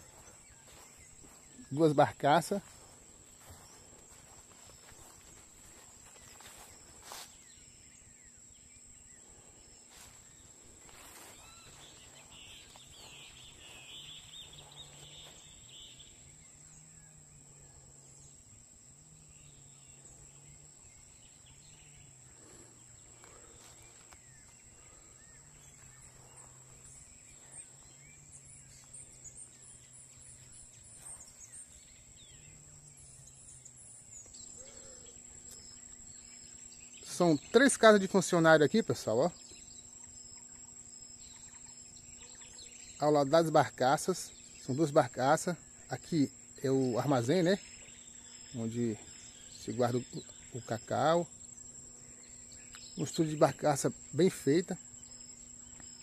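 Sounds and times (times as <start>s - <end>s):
bird chirps: 0.0s - 18.5s, 19.1s - 56.0s
faint low hum: 0.0s - 56.0s.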